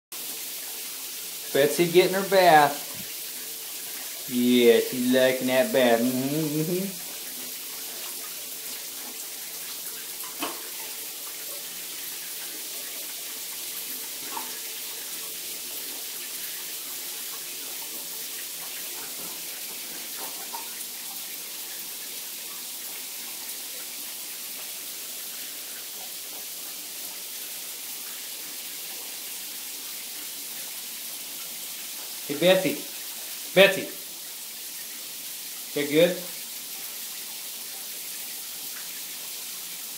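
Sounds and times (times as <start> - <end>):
water running into bathtub: 0.1 - 39.9.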